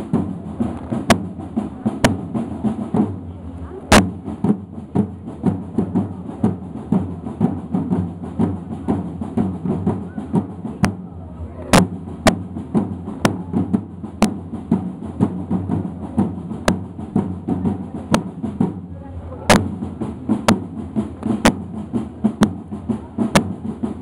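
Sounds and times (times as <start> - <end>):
snare drums marching rhythm: 0.0 - 24.0
sharp drum cracks: 0.1 - 3.2, 3.9 - 11.1, 11.7 - 18.8, 19.5 - 24.0.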